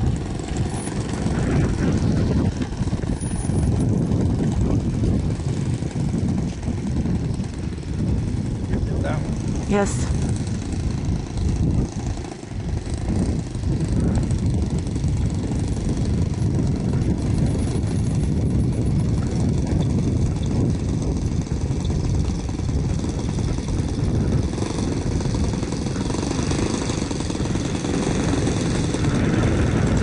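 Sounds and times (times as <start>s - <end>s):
model plane engine running: 0.0s - 30.0s.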